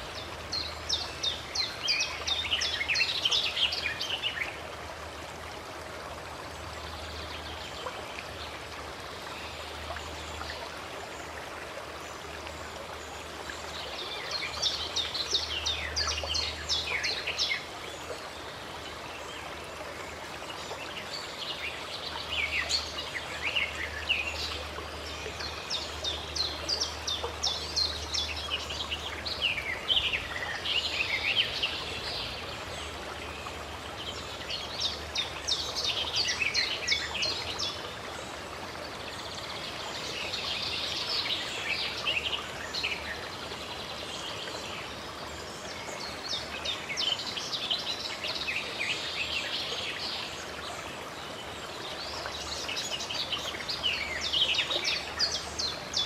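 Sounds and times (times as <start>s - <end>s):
running water: 0.0s - 56.0s
songbirds chirping: 0.0s - 56.0s.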